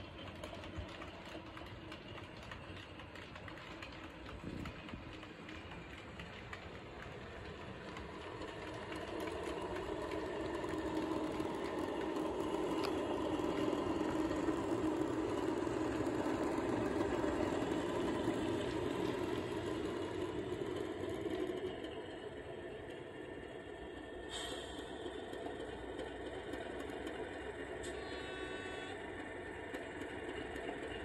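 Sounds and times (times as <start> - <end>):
model train humming: 0.0 - 31.0.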